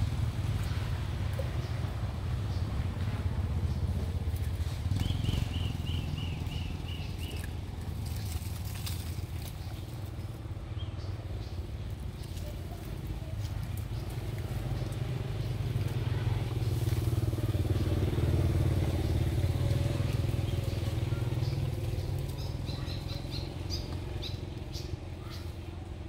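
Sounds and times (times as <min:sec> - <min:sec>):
motor vehicle passing: 0:00.0 - 0:26.0.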